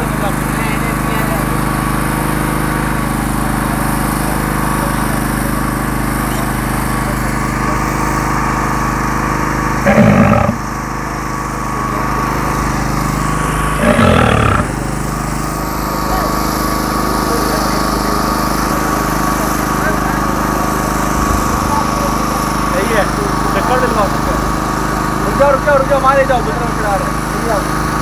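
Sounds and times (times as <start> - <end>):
small engine droning: 0.0 - 28.0.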